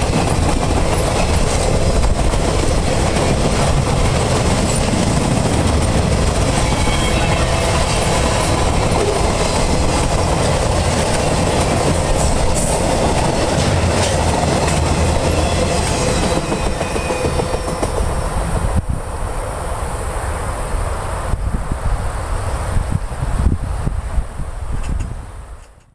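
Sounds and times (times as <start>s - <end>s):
train wheels rumbling on rails: 0.0s - 25.9s.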